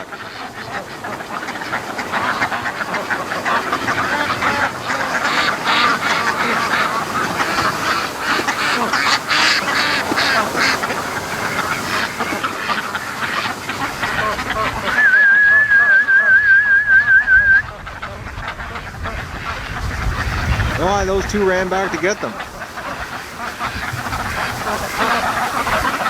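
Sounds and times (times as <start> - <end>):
ducks quacking: 0.0 - 26.0.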